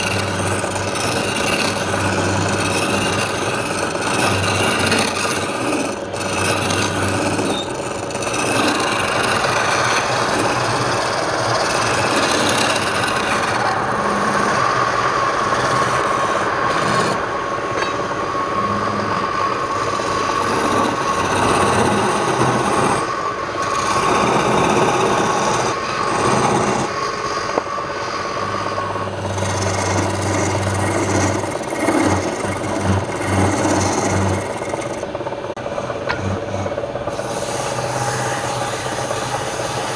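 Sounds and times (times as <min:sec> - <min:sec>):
wood rasping on lathe: 0:00.0 - 0:17.2, 0:18.6 - 0:39.9
wood lathe humming: 0:00.0 - 0:39.9.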